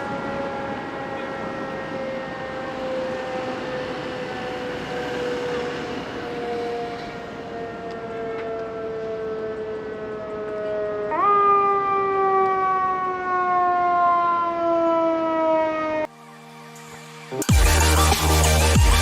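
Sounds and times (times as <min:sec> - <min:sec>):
emergency siren wailing: 0:00.0 - 0:16.5.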